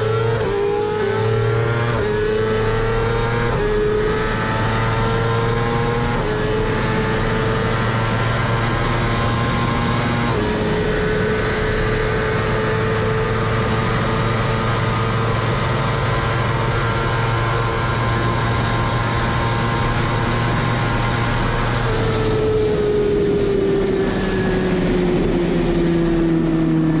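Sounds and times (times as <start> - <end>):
motorcycle engine running flat out: 3.6 - 27.0.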